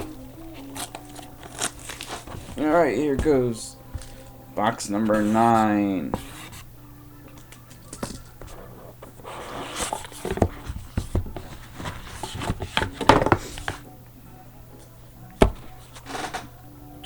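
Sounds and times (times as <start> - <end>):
cardboard and wrapper rustling: 0.0 - 13.9, 14.8 - 16.5.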